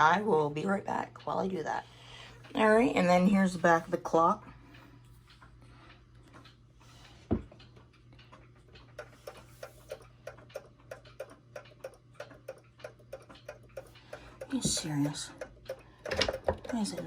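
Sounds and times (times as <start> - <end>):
mantel clock ticking: 0.0 - 17.0.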